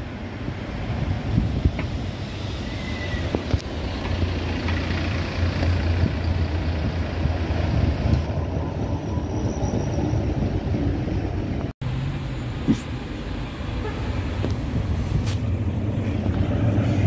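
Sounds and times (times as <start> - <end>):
bus diesel engine rumbling: 0.0 - 17.0
street traffic: 0.0 - 17.0.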